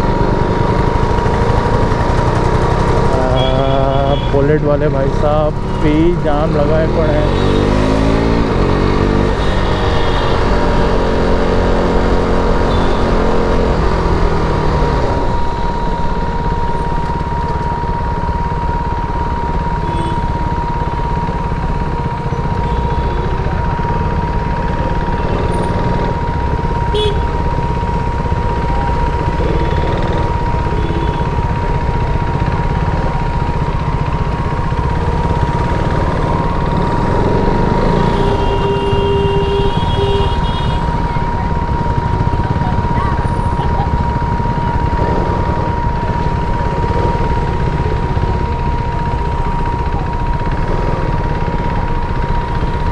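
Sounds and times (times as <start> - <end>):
motorcycle engine rumbling: 0.0 - 52.9.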